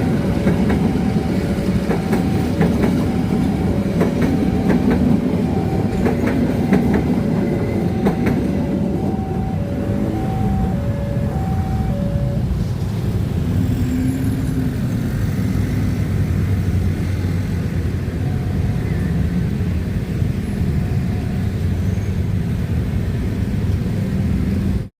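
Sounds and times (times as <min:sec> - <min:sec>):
heavy vehicle engines rumbling: 0:00.0 - 0:24.9.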